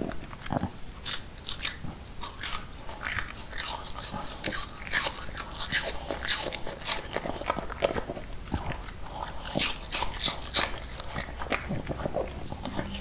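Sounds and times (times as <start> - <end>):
dog crunching apple pieces: 0.0 - 13.0.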